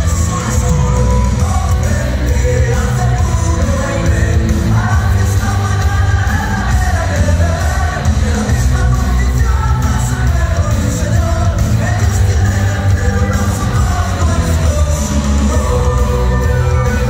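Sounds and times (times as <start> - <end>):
dance music with heavy bass: 0.0 - 17.0
person singing: 0.0 - 17.0.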